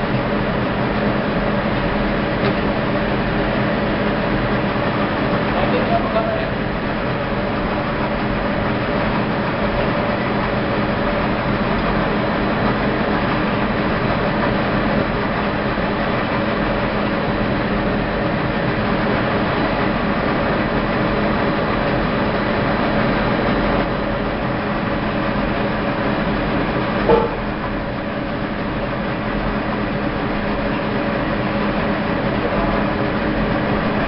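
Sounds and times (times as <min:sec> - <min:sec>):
rope making machine drone: 0:00.0 - 0:34.0.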